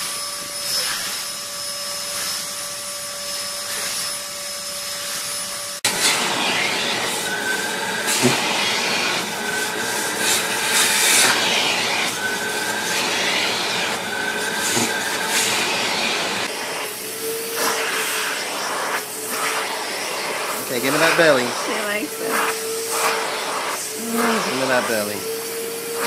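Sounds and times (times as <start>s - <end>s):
vacuum cleaner steady hum: 0.0s - 26.0s
vacuum cleaner suction: 0.0s - 26.0s.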